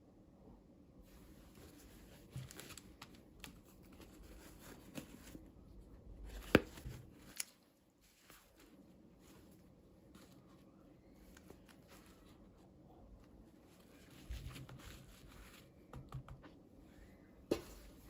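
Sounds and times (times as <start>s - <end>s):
plastic toys and packaging rustling: 1.2s - 15.8s.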